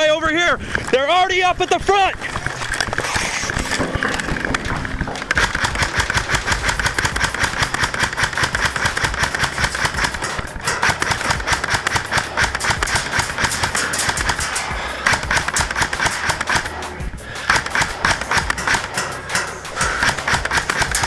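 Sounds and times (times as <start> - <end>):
airsoft guns firing full-auto: 2.2 - 21.0.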